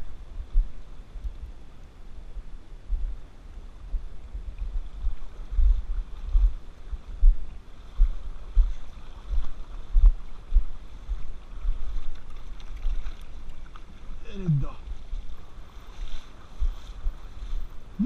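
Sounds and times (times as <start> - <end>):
river flowing: 0.0 - 18.0
wind buffeting microphone: 2.2 - 18.0.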